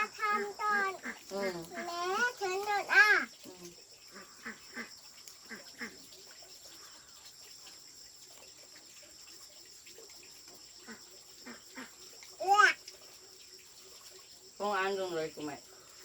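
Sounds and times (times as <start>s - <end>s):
high-pitched insect chirring: 0.0s - 16.0s.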